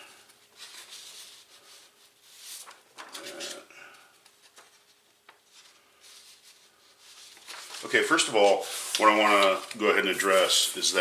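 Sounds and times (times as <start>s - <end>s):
paper rustling and scraping: 0.2s - 11.0s.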